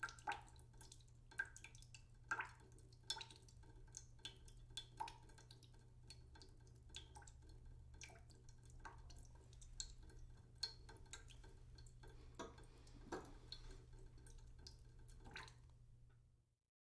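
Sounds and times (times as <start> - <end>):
water dripping into a pot: 0.0 - 16.4
low steady hum: 0.0 - 16.5.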